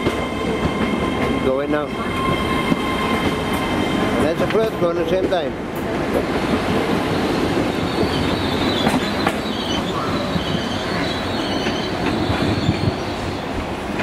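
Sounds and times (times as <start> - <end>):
rumble of train wheels on rail: 0.0 - 14.0.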